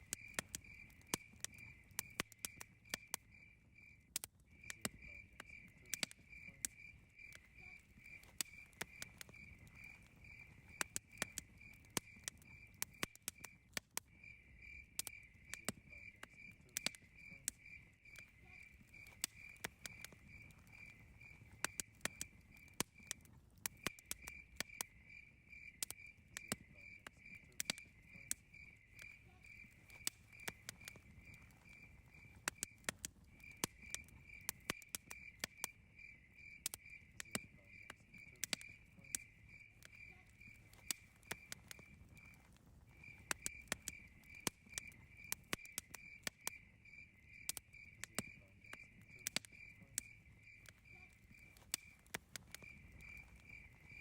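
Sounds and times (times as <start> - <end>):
cricket chirping: 0.0 - 54.0
wood fire crackling and popping: 0.0 - 54.0.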